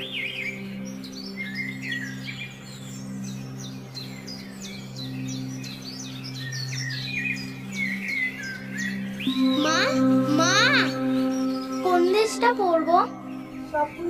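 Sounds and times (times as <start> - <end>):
low musical drone: 0.0 - 14.0
small birds chirping: 0.0 - 14.0.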